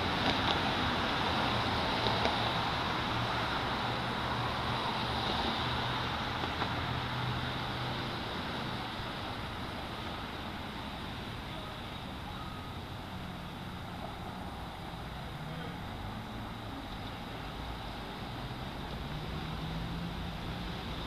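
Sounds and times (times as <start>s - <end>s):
passing car road noise: 0.0s - 21.0s.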